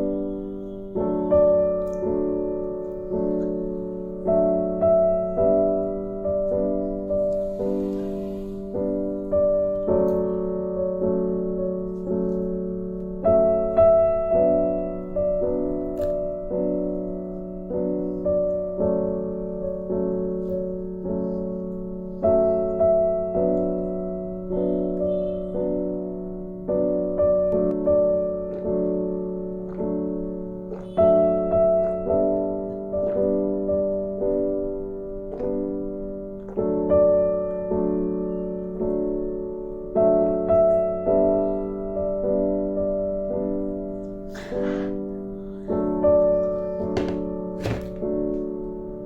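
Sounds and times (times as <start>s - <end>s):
slow solo piano music: 0.0s - 49.0s.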